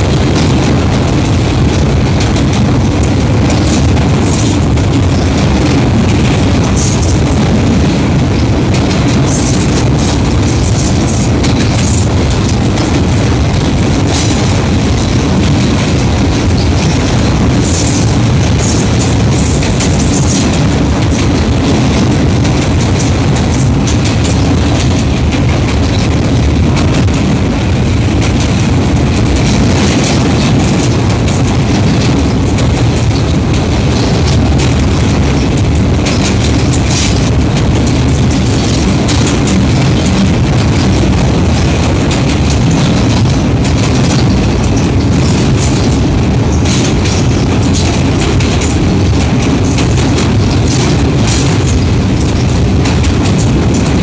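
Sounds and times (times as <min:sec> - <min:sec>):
train low rumble: 0:00.0 - 0:54.0
wheels clattering on rails: 0:00.0 - 0:54.0.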